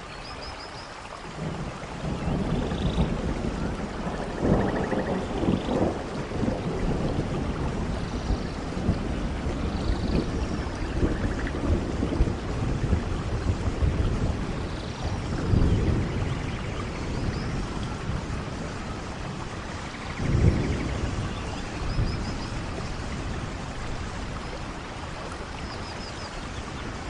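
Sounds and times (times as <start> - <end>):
rain on leaves: 0.0 - 27.0.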